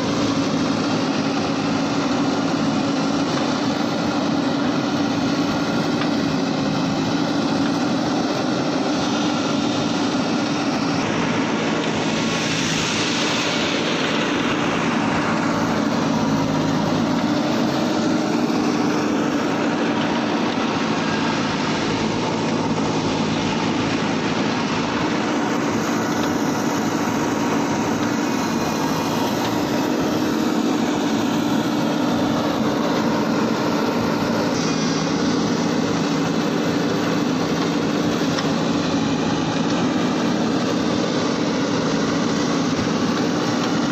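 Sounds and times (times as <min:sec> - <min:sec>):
diesel engine running: 0:00.0 - 0:43.9
rushing noise: 0:00.0 - 0:43.9.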